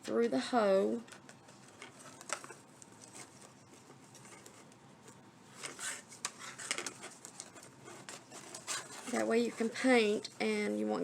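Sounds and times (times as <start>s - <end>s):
faint rustling and scraping: 0.9s - 11.0s.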